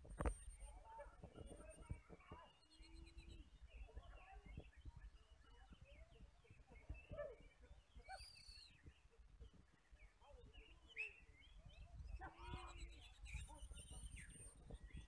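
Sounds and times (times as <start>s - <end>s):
birds chirping and whistling: 1.4s - 9.0s, 10.0s - 15.0s.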